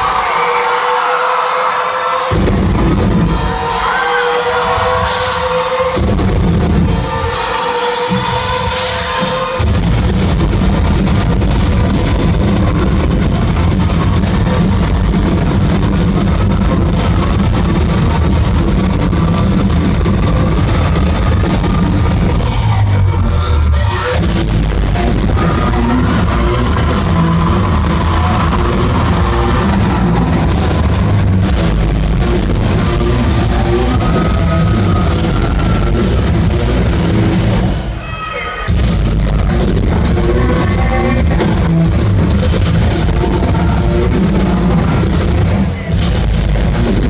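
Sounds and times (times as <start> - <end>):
live heavy metal band: 0.0 - 47.0.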